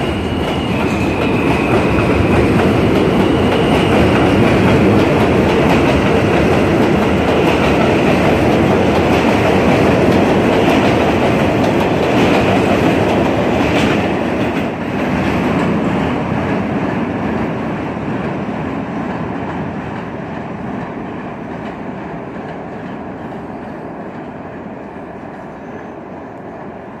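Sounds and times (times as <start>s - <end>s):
subway train wheel and rail noise: 0.0s - 27.0s.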